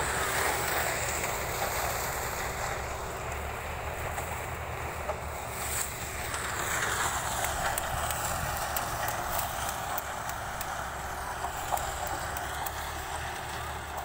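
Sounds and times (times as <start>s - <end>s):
harvester cutting cane: 0.0s - 14.0s.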